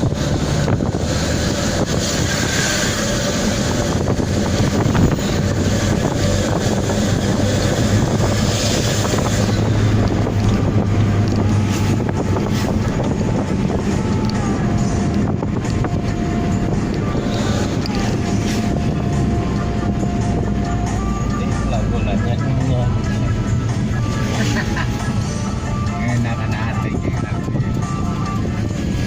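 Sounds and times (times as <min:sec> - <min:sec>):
van engine low drone: 0:00.0 - 0:29.0
wind noise on microphone: 0:00.0 - 0:29.0.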